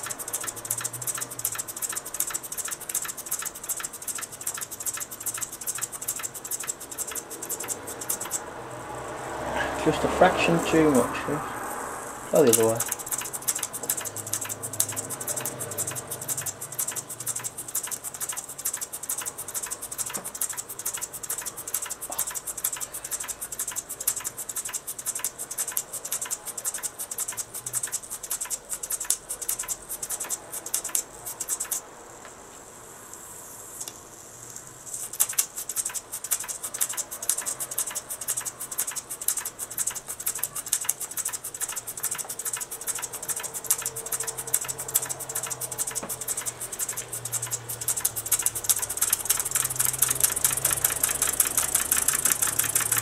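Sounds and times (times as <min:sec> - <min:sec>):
toy steam engine rattling: 0:00.0 - 0:11.4, 0:12.2 - 0:31.9, 0:34.5 - 0:53.0.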